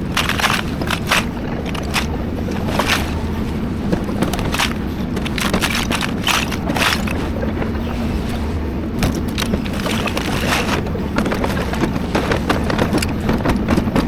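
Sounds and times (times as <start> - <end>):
debris crunching and scraping: 0.0 - 14.0
excavator diesel engine running: 0.0 - 14.0.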